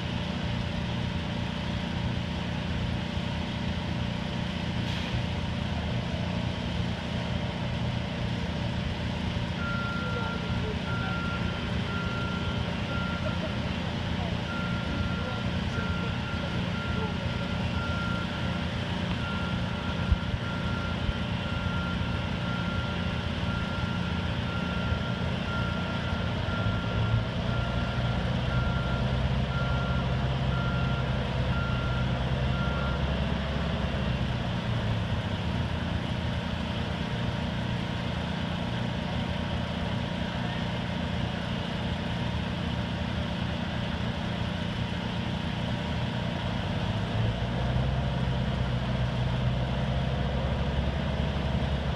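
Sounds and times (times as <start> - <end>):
crane diesel engine running: 0.0 - 51.9.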